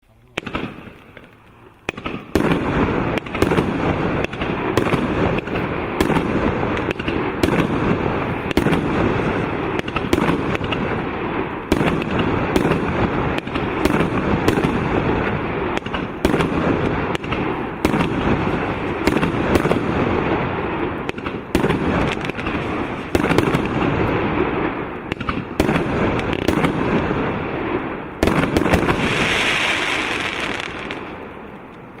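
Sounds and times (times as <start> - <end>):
firework bangs: 0.3 - 32.0.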